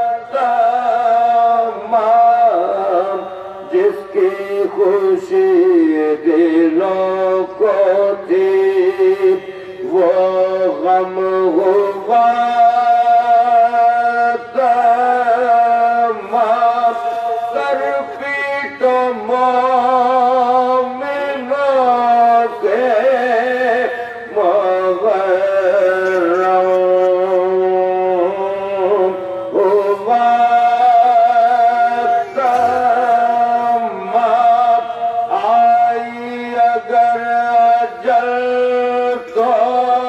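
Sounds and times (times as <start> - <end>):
man chanting through loudspeakers: 0.0 - 40.0.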